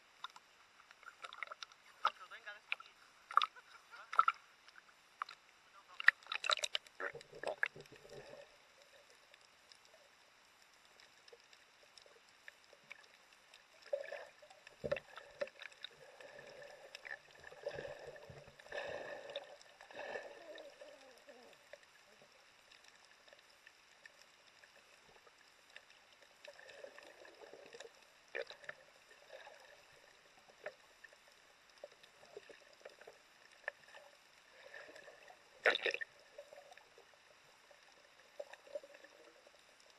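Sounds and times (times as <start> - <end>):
underwater swishing and bubbling: 0.0 - 39.9.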